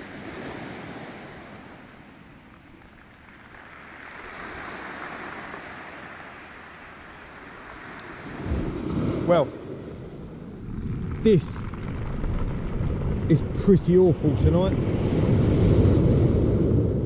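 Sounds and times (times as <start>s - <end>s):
surf washing onto stony beach: 0.0s - 17.0s
wind on microphone: 2.8s - 17.0s.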